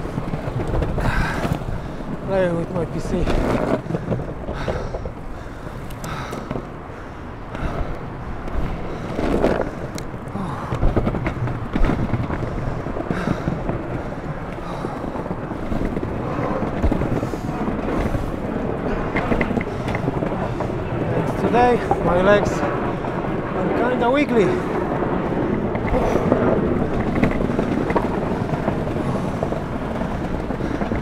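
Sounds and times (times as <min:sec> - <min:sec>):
longboard wheels rolling on paving: 0:00.0 - 0:31.0
wind on microphone: 0:00.0 - 0:31.0.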